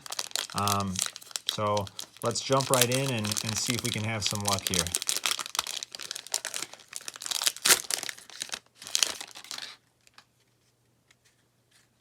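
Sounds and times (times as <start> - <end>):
wrapper tearing and crinkling: 0.0 - 10.2.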